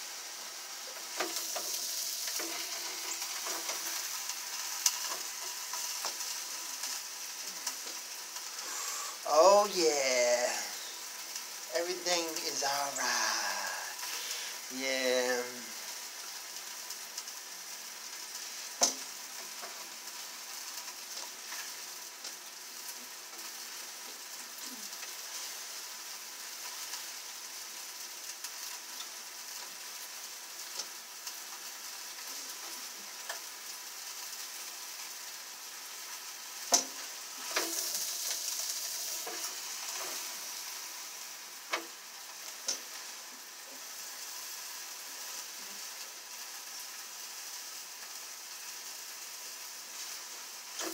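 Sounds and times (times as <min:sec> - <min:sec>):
sausages sizzling on a grill: 0:00.0 - 0:50.9.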